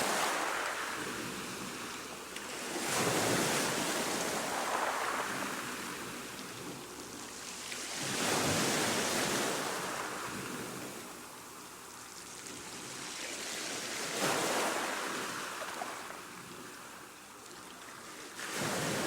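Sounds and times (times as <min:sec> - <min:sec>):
ocean waves surging onto shore: 0:00.0 - 0:17.1, 0:18.0 - 0:19.0.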